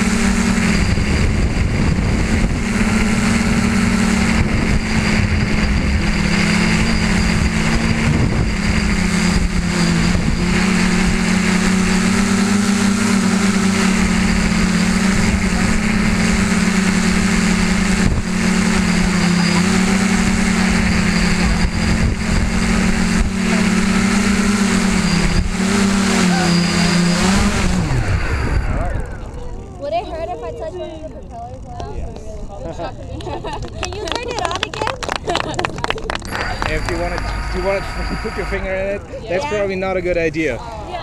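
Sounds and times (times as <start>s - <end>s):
drone motors humming: 0.0s - 41.0s.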